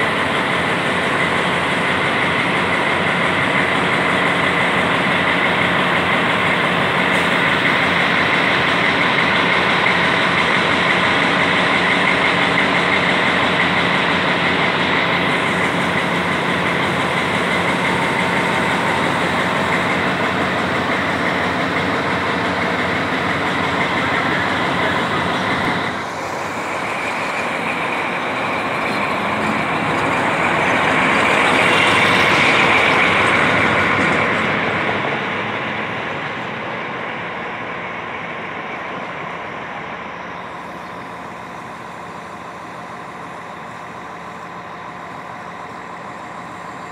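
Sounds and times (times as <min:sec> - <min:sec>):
locomotive diesel engine running: 0:00.0 - 0:46.9.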